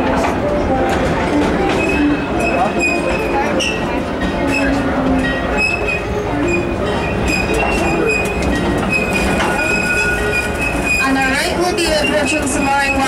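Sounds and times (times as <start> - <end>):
wheels rumbling on rail: 0.0 - 13.0
high-pitched wheel squeals: 1.7 - 13.0.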